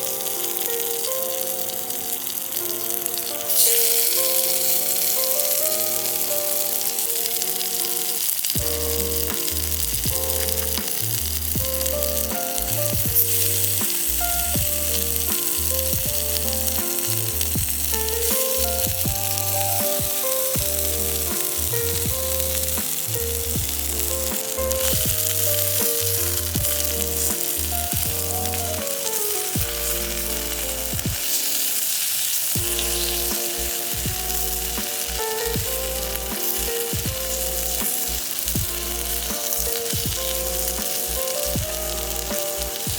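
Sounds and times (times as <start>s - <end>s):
background music with plucked melody: 0.0s - 42.9s
food sizzling in a pan: 0.0s - 42.9s.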